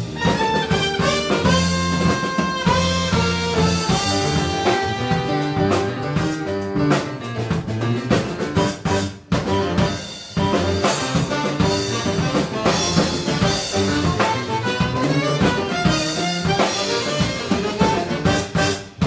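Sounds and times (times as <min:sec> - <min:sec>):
jazz fusion band playing: 0:00.0 - 0:19.0.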